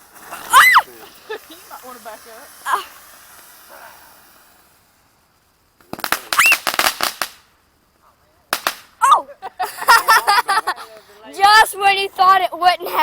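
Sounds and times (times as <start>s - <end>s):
firecrackers cracking: 0.0s - 12.1s.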